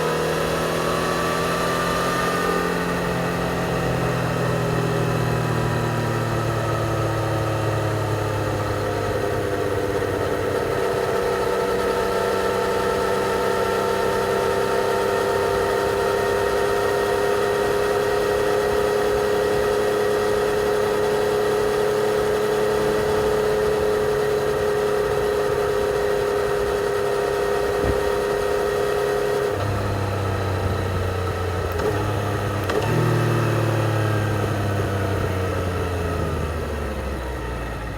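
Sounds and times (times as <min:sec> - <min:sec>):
motorcycle engine cruising: 0:00.0 - 0:37.9.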